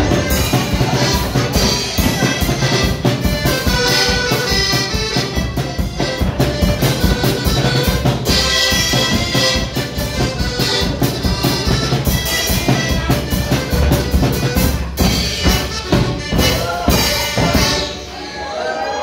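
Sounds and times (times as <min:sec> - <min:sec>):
drum kit beat: 0:00.0 - 0:18.2
accordion playing polka: 0:00.0 - 0:19.0.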